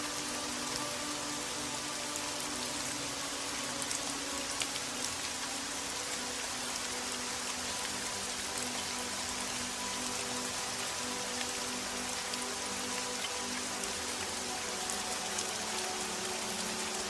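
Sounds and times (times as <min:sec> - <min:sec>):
soft music with held notes: 0:00.0 - 0:17.0
steady rain: 0:00.0 - 0:17.0.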